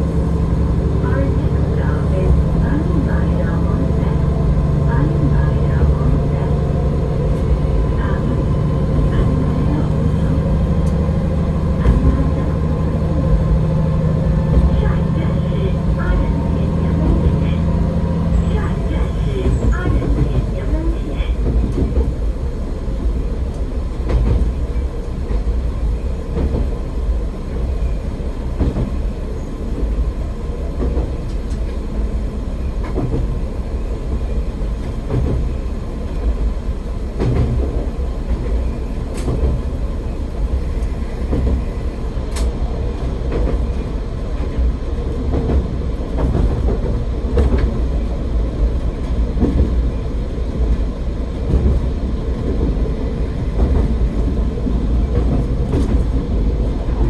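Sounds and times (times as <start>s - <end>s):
railcar engine and wheels rumbling: 0.0s - 57.0s.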